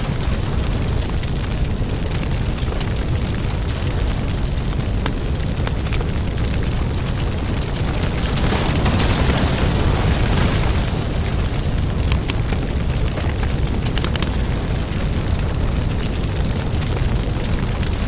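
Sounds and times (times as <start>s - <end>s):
fire crackling and popping: 0.0s - 18.0s
low roar of flames: 0.0s - 18.0s.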